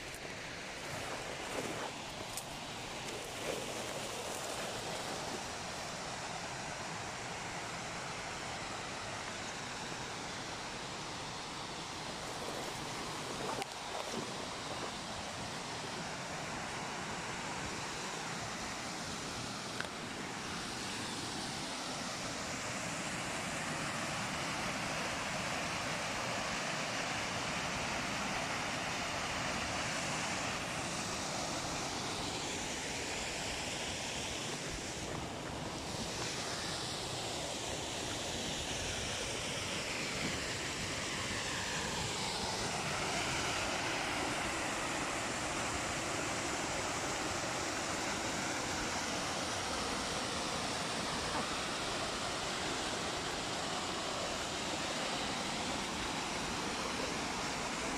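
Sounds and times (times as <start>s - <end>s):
waterfall rushing over rocks: 0.0s - 57.9s.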